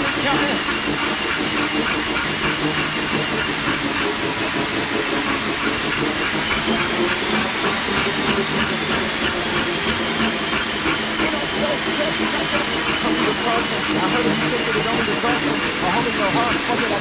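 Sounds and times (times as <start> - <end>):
fast rhythmic ticks: 0.0 - 17.0.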